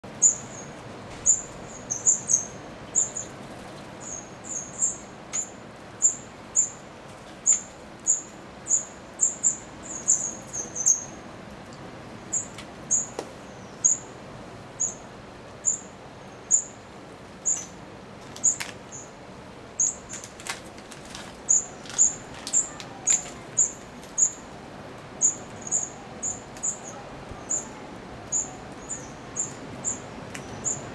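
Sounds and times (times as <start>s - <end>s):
small birds chirping: 0.1s - 11.3s, 12.1s - 14.2s, 14.8s - 19.2s, 19.8s - 20.4s, 21.4s - 24.5s, 25.2s - 30.9s.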